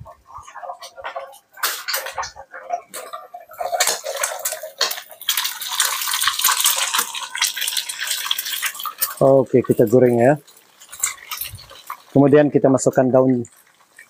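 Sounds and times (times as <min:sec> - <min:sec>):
spatula scraping and tapping pan: 0:00.0 - 0:12.1
egg sizzling in hot oil: 0:00.0 - 0:14.0.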